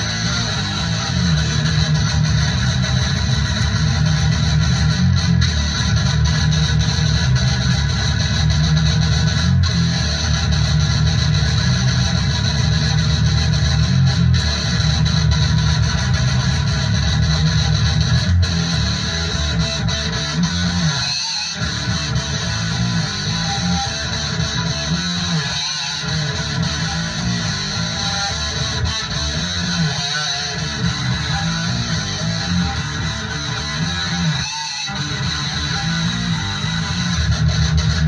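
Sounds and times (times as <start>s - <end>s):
heavy metal music with electric guitar: 0.0s - 38.0s.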